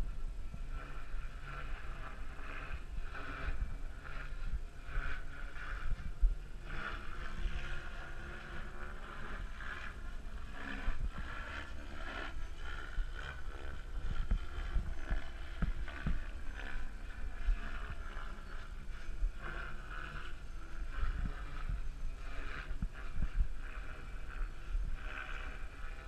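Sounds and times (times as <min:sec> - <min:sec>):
model helicopter rotor and motor: 0:00.0 - 0:26.0
wind on microphone: 0:00.0 - 0:26.0.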